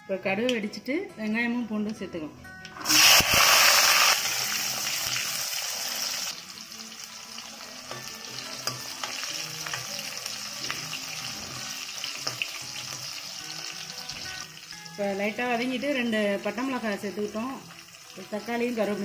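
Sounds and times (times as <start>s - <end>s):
food sizzling in hot oil: 2.8s - 19.0s.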